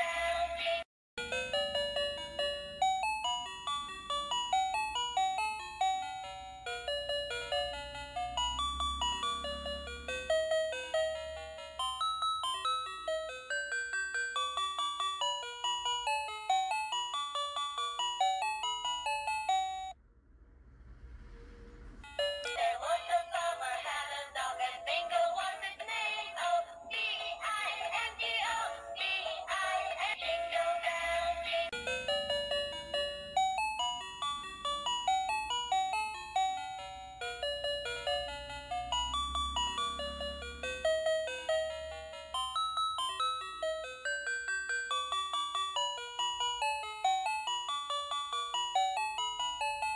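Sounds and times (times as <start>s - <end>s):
toy playing electronic tune: 0.0s - 20.0s, 22.0s - 49.9s.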